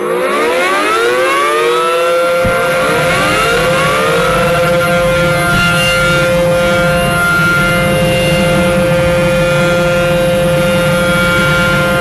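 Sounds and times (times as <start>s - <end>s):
motor whining with low rumble: 2.2s - 12.0s.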